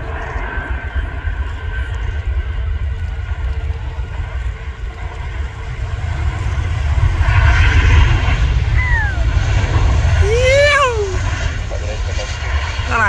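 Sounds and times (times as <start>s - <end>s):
faint whine: 0.0s - 13.0s
jet engines roaring: 0.0s - 13.0s
low rumble: 0.0s - 13.0s.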